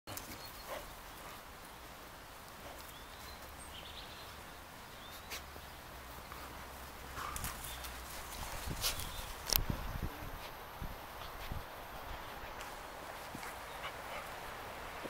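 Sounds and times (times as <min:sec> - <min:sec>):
low hum and hiss: 0:00.4 - 0:15.0.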